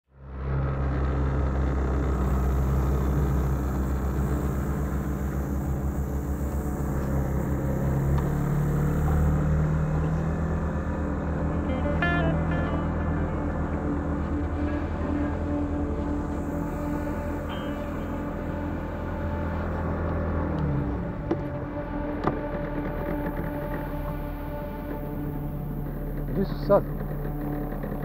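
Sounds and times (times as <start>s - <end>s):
boat engine running: 0.1s - 28.0s.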